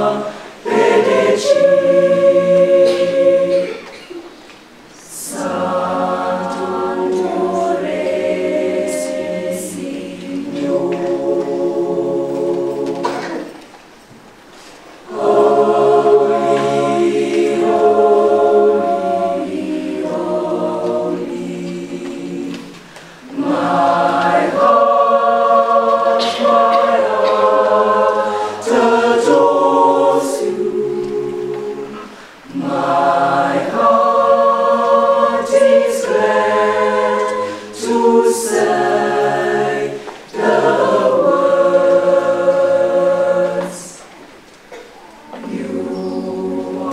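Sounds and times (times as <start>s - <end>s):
children's choir singing in harmony: 0.0s - 46.9s.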